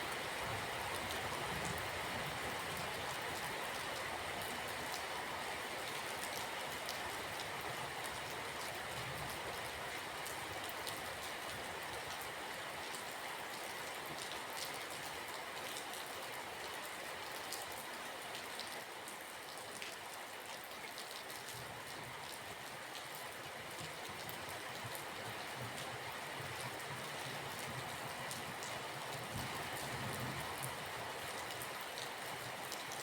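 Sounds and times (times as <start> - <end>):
rain pattering on a surface: 0.0 - 33.0.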